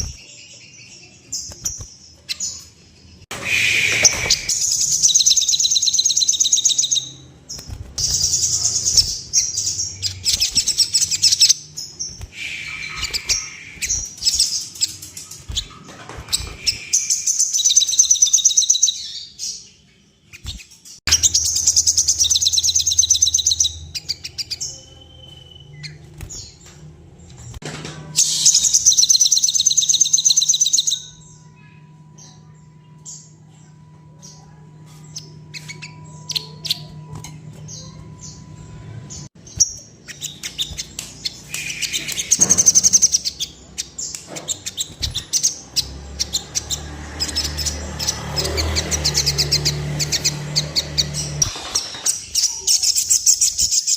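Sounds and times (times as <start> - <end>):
small bird trilling: 3.5 - 19.3, 20.3 - 26.6, 28.2 - 33.3, 34.2 - 53.9.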